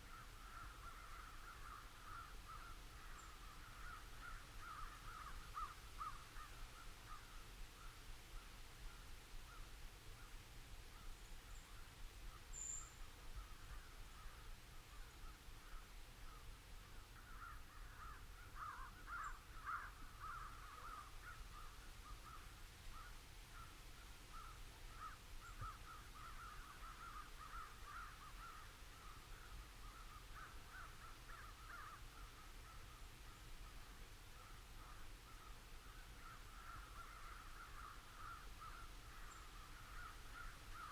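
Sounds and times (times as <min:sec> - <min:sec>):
faint chorus of birds calling: 0:00.0 - 0:40.9.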